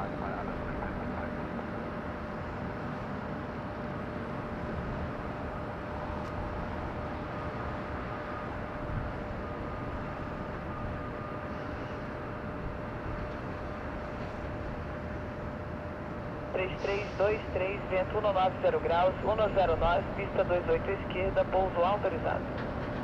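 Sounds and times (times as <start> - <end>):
distant jet engines rumbling: 0.0 - 23.0
thin steady whine: 3.5 - 22.4.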